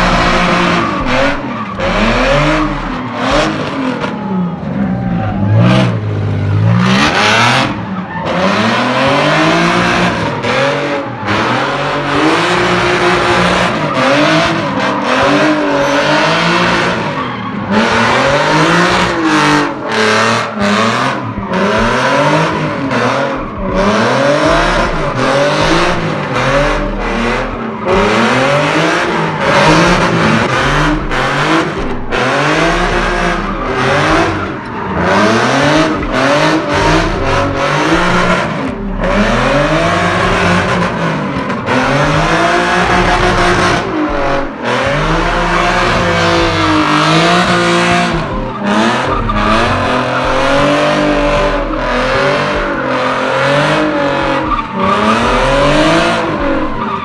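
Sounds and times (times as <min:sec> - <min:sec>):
car engine revving hard: 0:00.0 - 0:57.0
tires squealing: 0:00.0 - 0:57.0.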